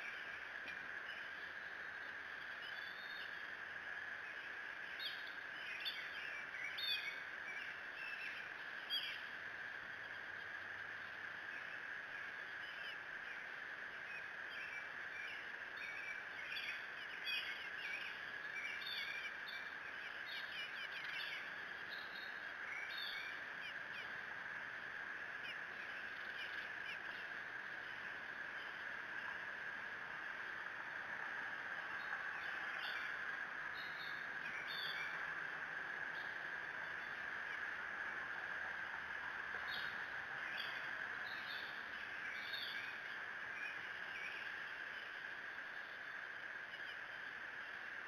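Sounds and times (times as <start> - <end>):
steady high hum: 0.0 - 48.0
wild birds chirping: 0.0 - 48.0.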